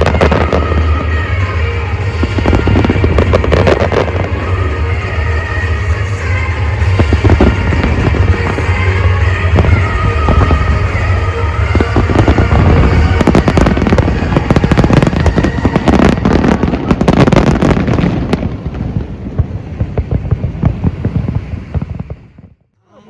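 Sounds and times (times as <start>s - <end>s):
music: 0.0s - 22.0s
fireworks crackling and popping: 0.0s - 22.7s
low rumble: 0.0s - 22.8s.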